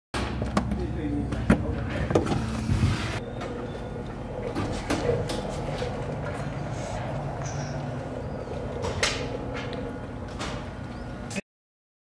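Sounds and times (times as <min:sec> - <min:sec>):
low hum: 0:00.2 - 0:11.4.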